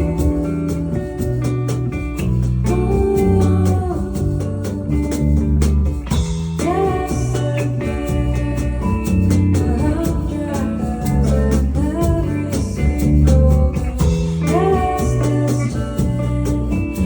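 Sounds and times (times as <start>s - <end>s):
bass with steady beat: 0.0s - 17.0s
plucked acoustic guitar: 0.0s - 17.0s.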